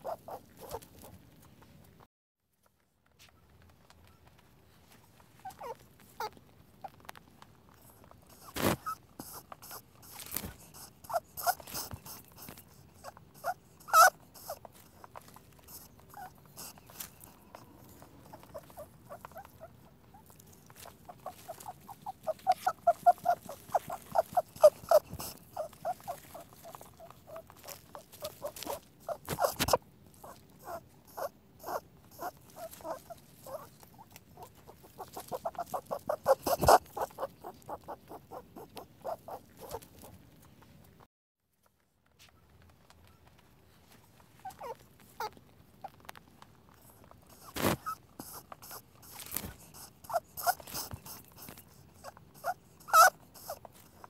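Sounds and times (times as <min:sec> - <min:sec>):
rabbit squeaks: 0:00.0 - 0:01.5, 0:05.2 - 0:40.7, 0:44.2 - 0:46.1, 0:46.7 - 0:54.0.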